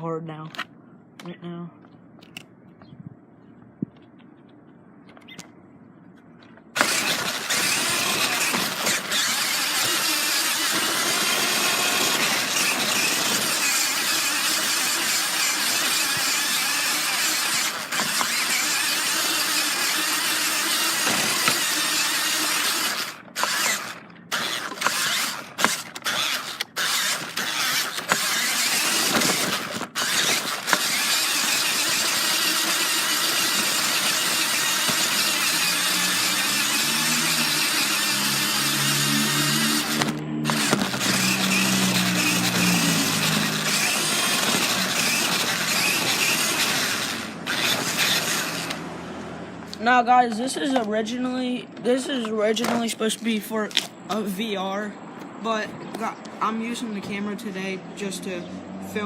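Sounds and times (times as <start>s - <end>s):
rc car motor and gears: 6.7s - 54.7s.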